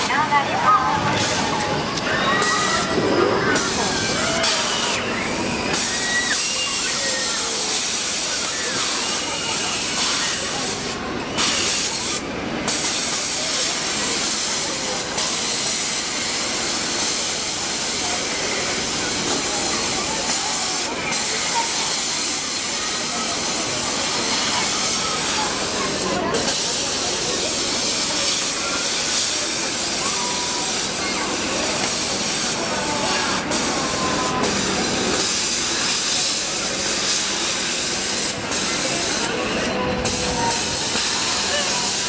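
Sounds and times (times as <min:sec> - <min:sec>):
faint voices: 0:00.0 - 0:42.0.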